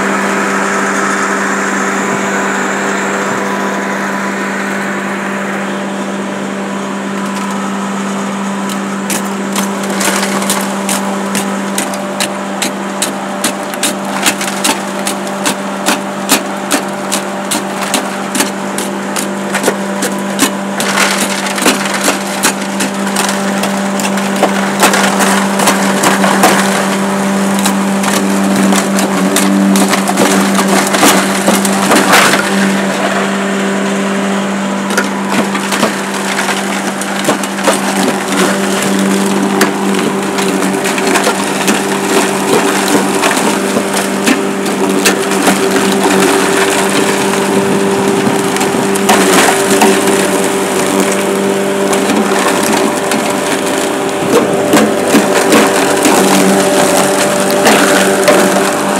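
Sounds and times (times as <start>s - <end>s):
hammer mill humming: 0.0s - 58.9s.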